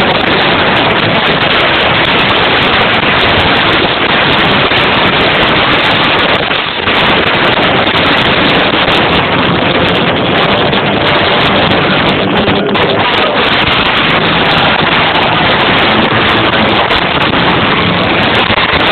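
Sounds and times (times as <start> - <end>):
distorted loud rock band: 0.0 - 18.9.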